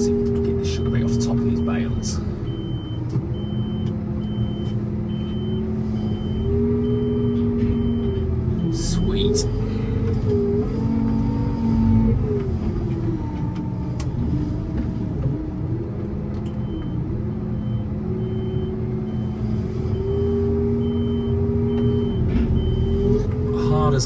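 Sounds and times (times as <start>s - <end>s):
reversing alarm beeping: 0.0s - 12.4s, 16.5s - 24.0s
loader engine running: 0.0s - 24.0s.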